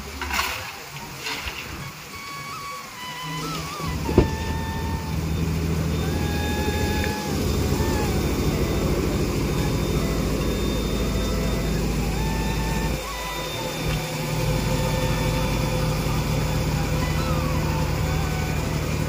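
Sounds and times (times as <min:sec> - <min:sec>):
large engine idling: 0:00.0 - 0:19.0.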